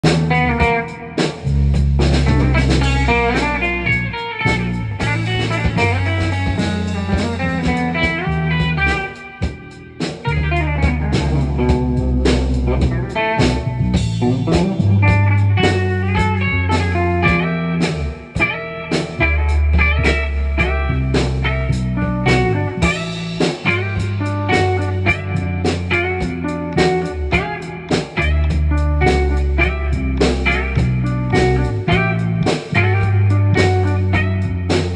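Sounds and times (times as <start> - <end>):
drum kit: 0.0 - 34.9
guitar melodic lines: 0.0 - 34.9
sustained bass guitar notes: 0.0 - 34.9.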